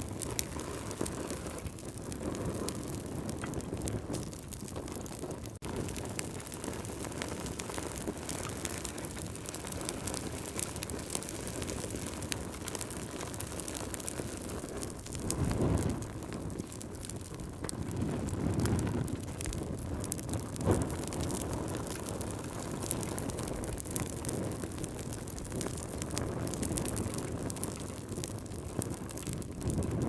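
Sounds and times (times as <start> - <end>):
low fire roar: 0.0 - 30.0
wood fire crackling and popping: 0.0 - 30.0.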